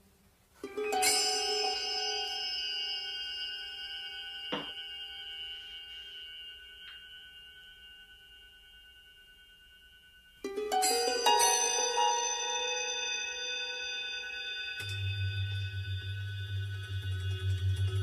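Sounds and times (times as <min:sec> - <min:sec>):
background music: 0:00.6 - 0:18.0.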